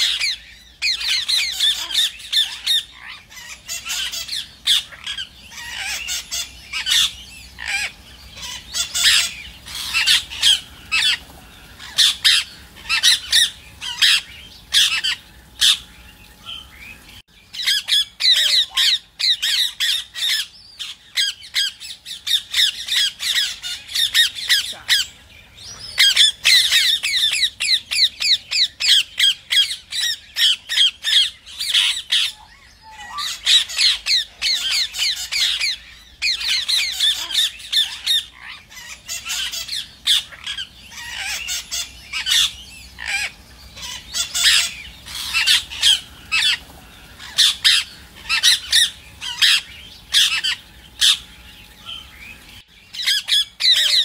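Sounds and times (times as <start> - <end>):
parakeets squawking: 0.0 - 54.0.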